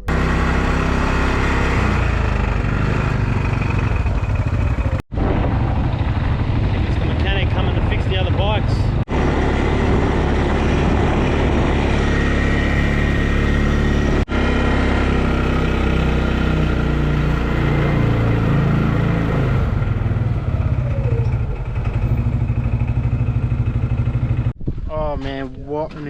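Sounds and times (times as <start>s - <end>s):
quad bike engine running: 0.0s - 24.5s.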